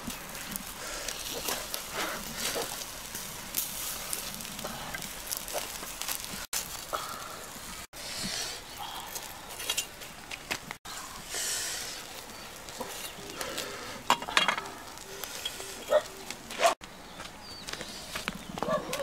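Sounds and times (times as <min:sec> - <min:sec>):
fish sizzling and crackling: 0:00.0 - 0:16.8.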